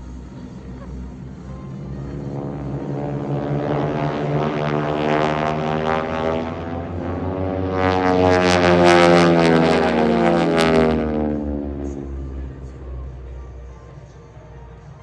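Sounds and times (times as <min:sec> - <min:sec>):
propeller planes flying past: 0:00.0 - 0:15.0.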